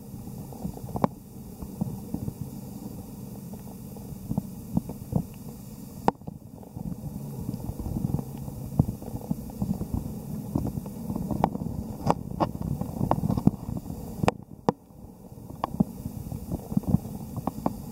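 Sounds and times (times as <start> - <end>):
low underwater rumble: 0.0 - 17.9.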